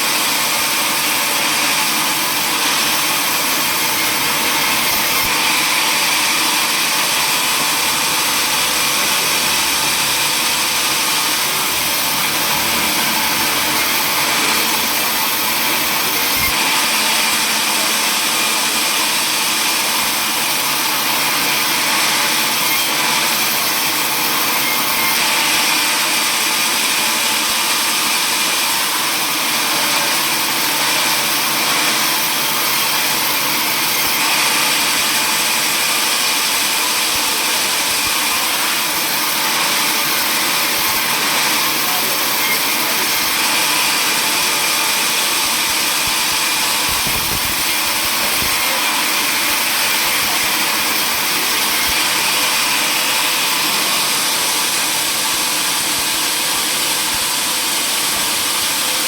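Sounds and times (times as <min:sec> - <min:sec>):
power saw running: 0:00.0 - 0:59.0.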